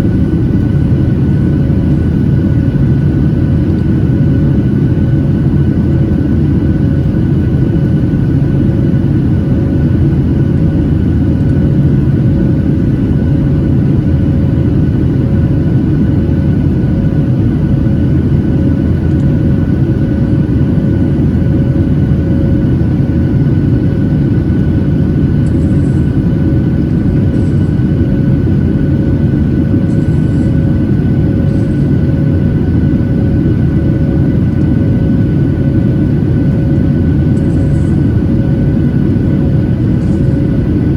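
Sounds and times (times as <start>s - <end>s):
faint whining tones: 0.0s - 40.9s
jet engines roaring in cabin: 0.0s - 40.9s.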